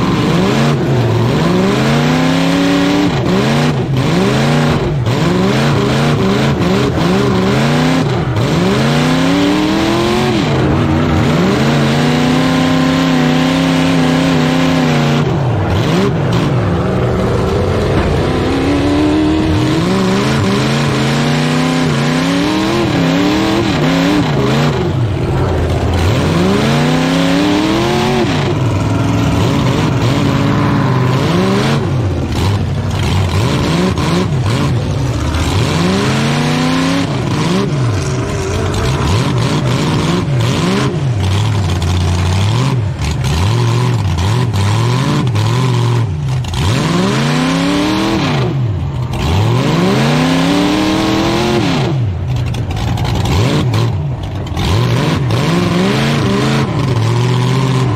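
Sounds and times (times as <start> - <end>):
truck engine revving: 0.0 - 57.9.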